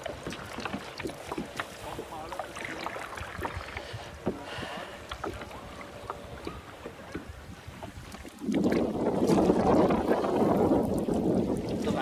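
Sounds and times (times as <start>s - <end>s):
paddles splashing: 0.0s - 12.0s
water lapping around kayaks: 0.0s - 12.0s.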